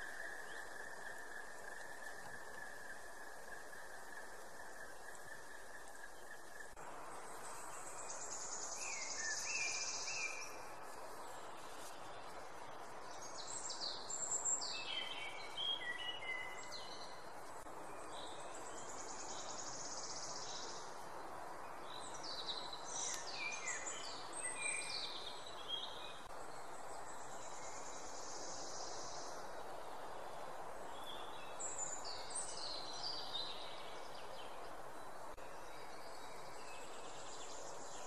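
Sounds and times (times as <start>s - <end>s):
songbird singing falling phrases: 0.0s - 29.7s, 30.8s - 38.0s
steady high hiss: 0.0s - 38.0s.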